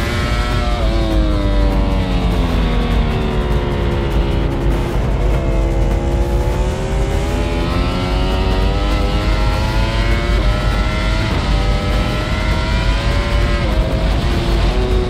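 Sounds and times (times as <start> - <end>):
racing motorcycle at full throttle: 0.0 - 15.0.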